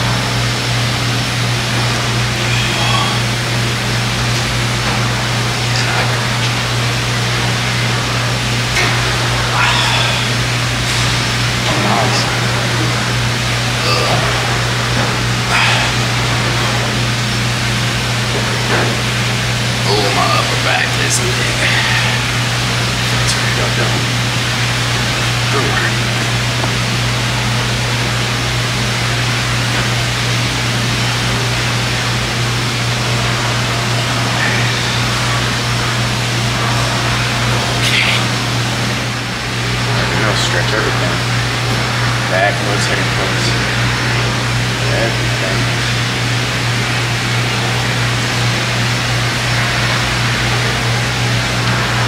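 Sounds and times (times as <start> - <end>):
constant low hum: 0.0 - 52.0
rushing machine noise: 0.0 - 52.0.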